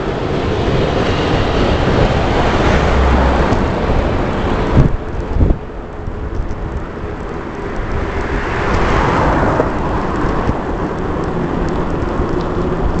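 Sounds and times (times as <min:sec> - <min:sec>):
bike rolling rumble: 0:00.0 - 0:13.0
wind rushing: 0:00.0 - 0:13.0.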